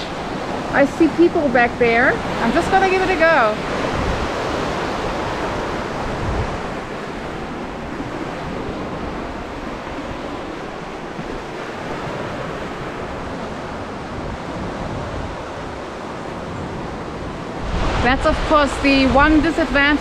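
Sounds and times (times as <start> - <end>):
waves washing onto rocky shore: 0.0 - 20.0
wind rumbling on microphone: 0.0 - 20.0.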